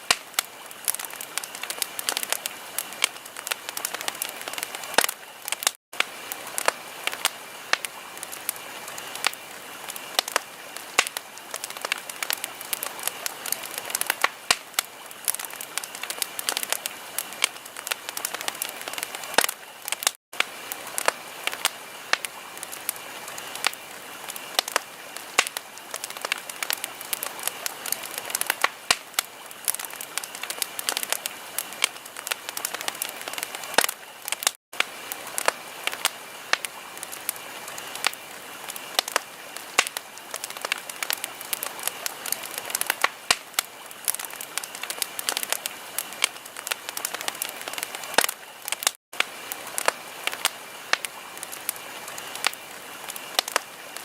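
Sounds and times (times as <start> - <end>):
steady fire hiss: 0.0 - 54.0
wood fire crackling: 0.0 - 54.0.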